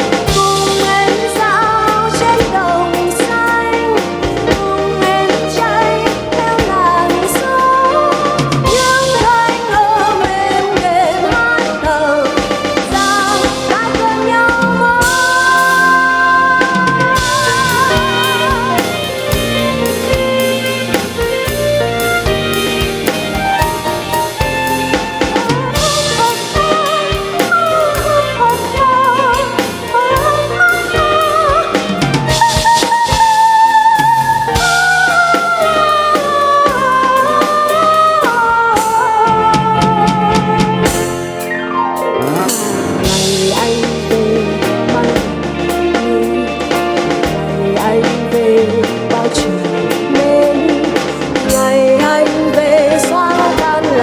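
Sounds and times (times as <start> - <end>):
chords: 0.0 - 54.0
drum kit beat: 0.0 - 54.0
lead melody with vibrato: 0.0 - 54.0.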